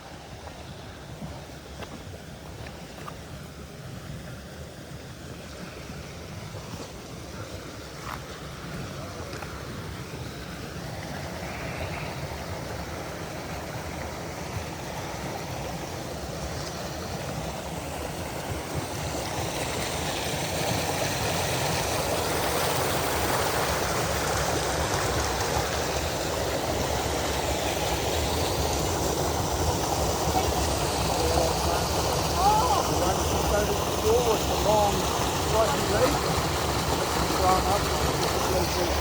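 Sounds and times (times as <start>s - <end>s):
forest stream rushing: 0.0s - 39.0s.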